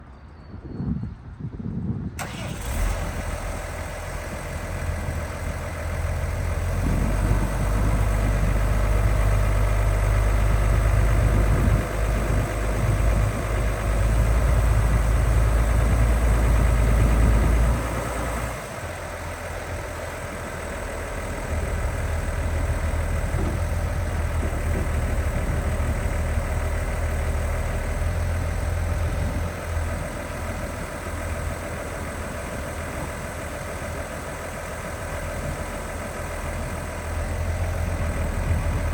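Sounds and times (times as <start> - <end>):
tractor diesel engine running: 1.8 - 38.9.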